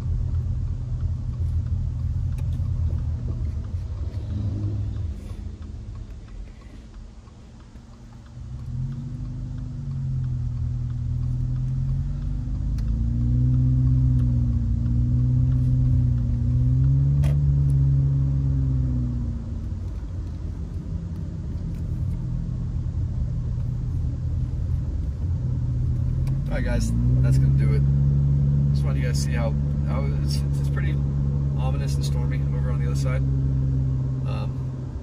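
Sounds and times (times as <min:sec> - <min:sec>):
car engine accelerating: 0:00.0 - 0:35.0
road noise: 0:00.0 - 0:35.0.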